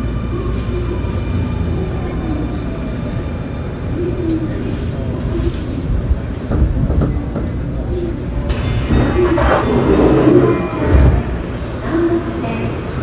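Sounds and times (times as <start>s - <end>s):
train rumbling from inside: 0.0s - 13.0s.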